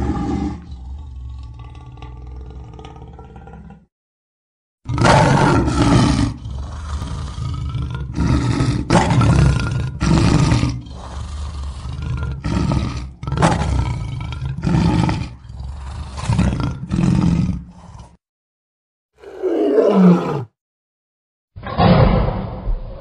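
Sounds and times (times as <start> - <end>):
lion roaring: 0.0 - 3.9, 4.9 - 18.2, 19.2 - 20.6, 21.6 - 23.0.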